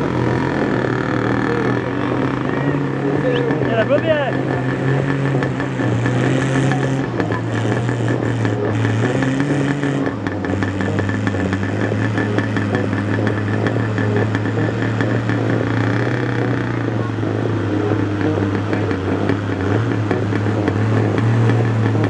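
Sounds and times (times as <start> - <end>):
small tractor engine running: 0.0 - 22.0.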